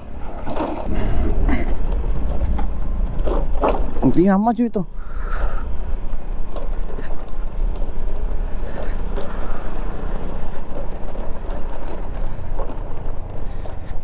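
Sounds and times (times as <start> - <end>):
motorcycle engine drone: 0.0 - 14.0
road rumble: 0.0 - 14.0.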